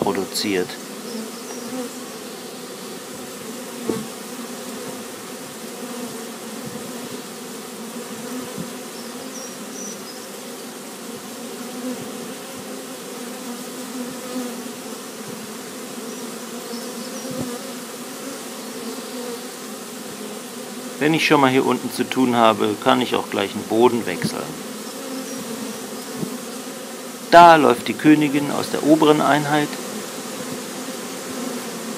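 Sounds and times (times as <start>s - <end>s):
bees buzzing: 0.0s - 31.9s.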